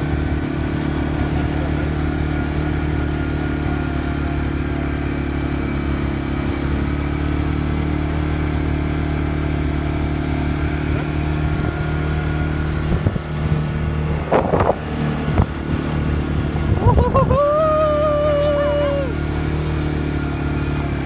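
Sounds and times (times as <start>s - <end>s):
quad bike engine running: 0.0s - 21.0s.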